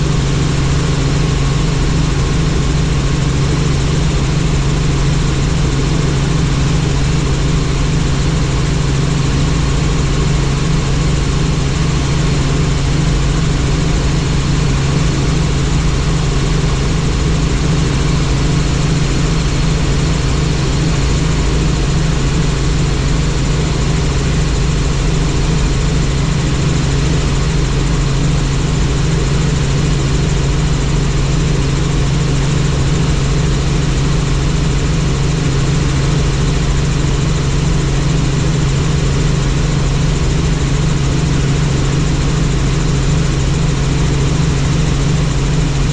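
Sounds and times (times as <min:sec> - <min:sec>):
helicopter turbine and rotor drone: 0:00.0 - 0:45.9.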